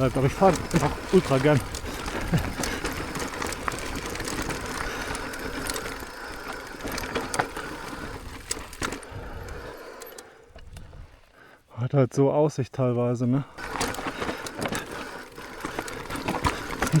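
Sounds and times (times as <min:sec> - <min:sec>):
tyres rolling over dirt and rocks: 0:00.0 - 0:10.2, 0:13.5 - 0:17.0
bike chain and parts rattling: 0:00.0 - 0:11.3, 0:13.5 - 0:17.0.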